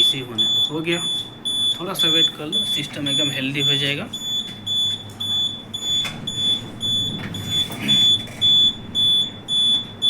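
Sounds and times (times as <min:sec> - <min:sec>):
high beeping alarm panel: 0:00.0 - 0:10.0.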